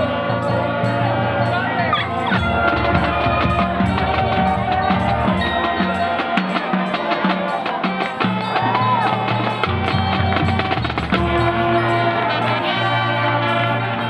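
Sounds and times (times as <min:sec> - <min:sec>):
drums: 0:00.0 - 0:12.4
horn chords: 0:00.0 - 0:14.0
mallet percussion: 0:00.0 - 0:14.0.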